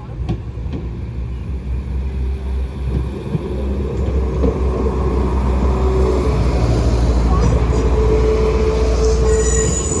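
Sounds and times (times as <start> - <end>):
diesel train engine rumble: 0.0 - 10.0.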